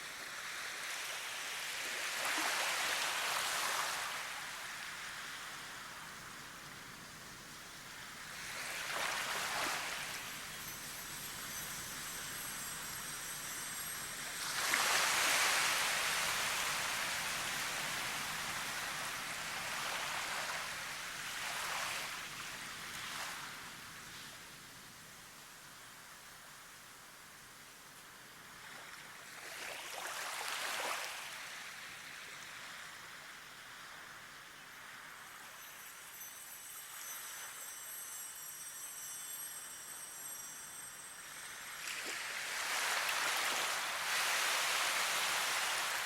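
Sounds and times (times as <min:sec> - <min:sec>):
waves washing in and out: 0:00.0 - 0:25.0, 0:28.4 - 0:46.0.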